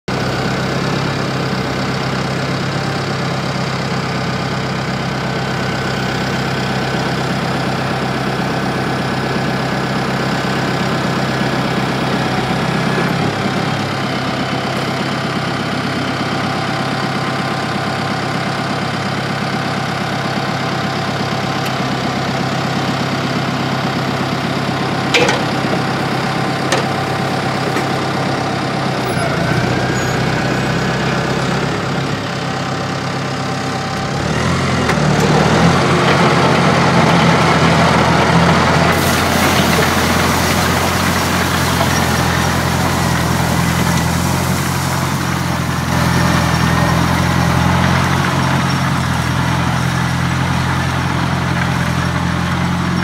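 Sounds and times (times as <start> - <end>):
tractor diesel engine idling: 0.0 - 53.0.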